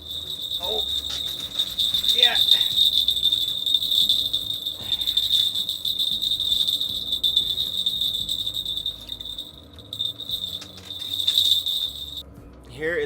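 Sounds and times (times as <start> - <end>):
high-pitched chirring whine: 0.0 - 12.2
low background rumble: 0.0 - 13.0.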